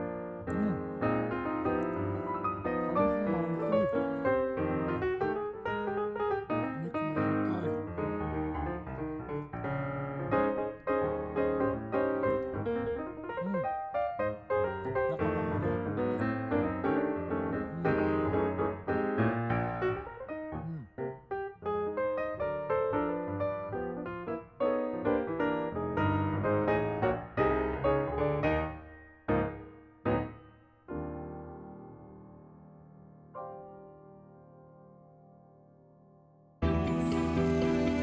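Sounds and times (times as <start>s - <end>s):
piano background music: 0.0s - 38.0s.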